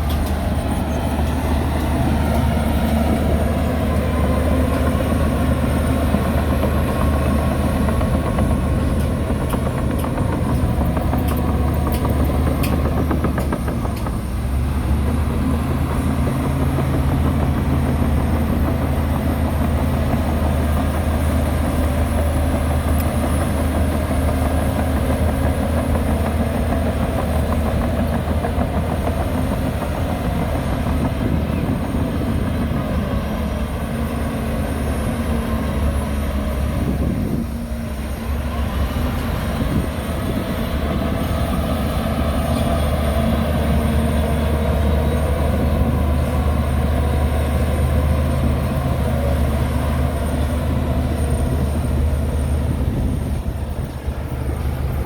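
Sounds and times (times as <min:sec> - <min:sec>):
diesel construction machinery drone: 0:00.0 - 0:55.0.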